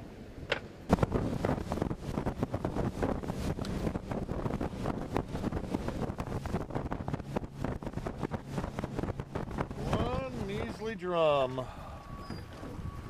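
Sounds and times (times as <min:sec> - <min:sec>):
outboard engine hum: 0:00.0 - 0:13.0
wind buffeting microphone: 0:00.9 - 0:13.0.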